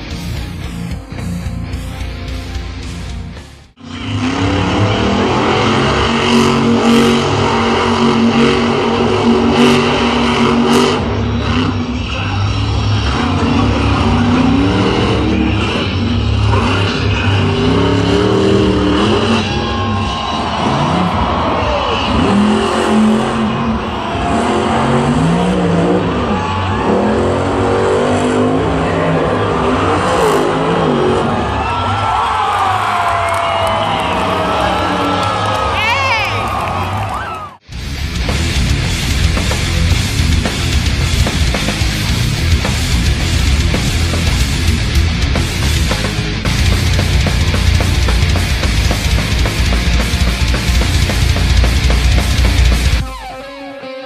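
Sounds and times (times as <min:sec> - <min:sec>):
monster truck engine roaring: 0:00.0 - 0:53.4.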